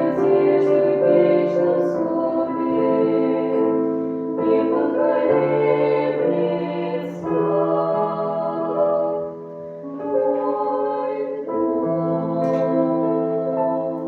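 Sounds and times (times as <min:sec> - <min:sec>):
instrumental accompaniment: 0:00.0 - 0:14.0
voices singing in harmony: 0:00.0 - 0:14.0.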